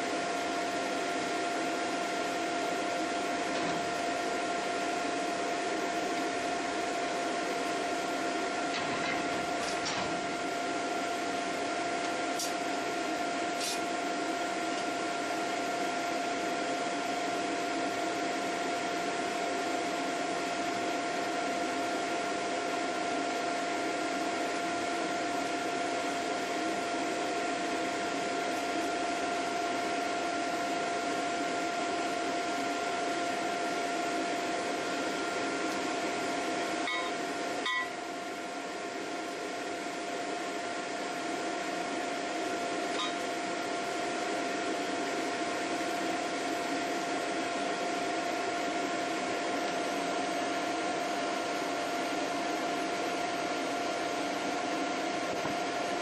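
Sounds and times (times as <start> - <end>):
furnace blower rushing and whining: 0.0 - 56.0.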